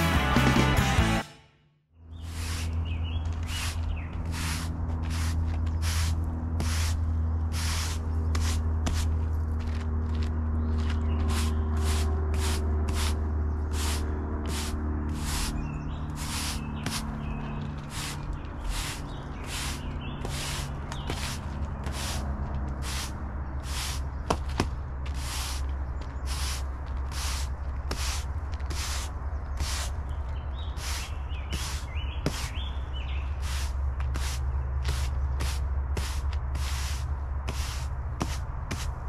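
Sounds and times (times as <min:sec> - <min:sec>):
push broom sweeping concrete: 0:02.2 - 0:39.0.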